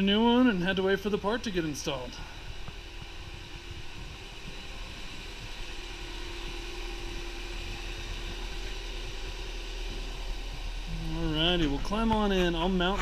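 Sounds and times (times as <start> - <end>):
car engine idling: 0.0 - 13.0
steady hum: 0.0 - 13.0.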